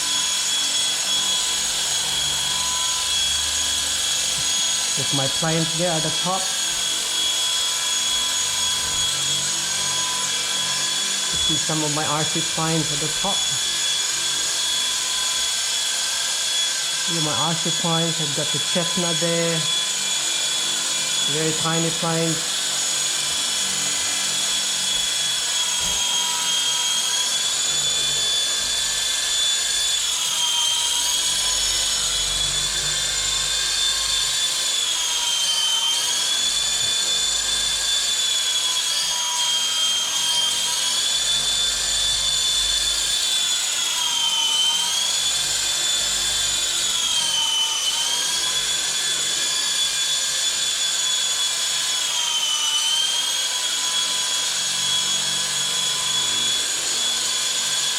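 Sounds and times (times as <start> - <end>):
rc helicopter motor whine: 0.0 - 57.9.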